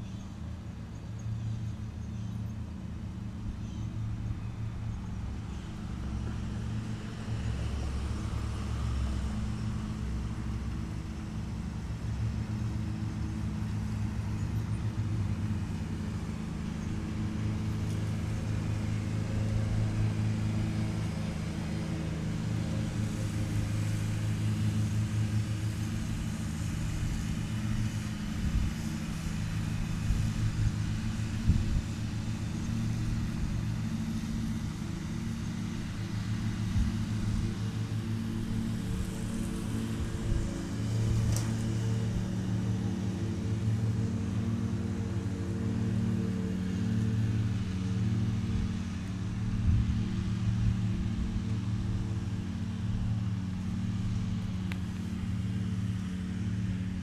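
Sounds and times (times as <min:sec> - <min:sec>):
lawn mower engines humming: 0:00.0 - 0:57.0.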